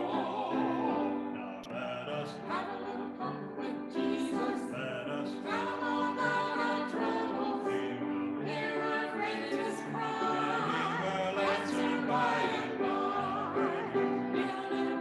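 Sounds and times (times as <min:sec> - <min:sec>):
mixed vocal group singing: 0:00.0 - 0:15.0.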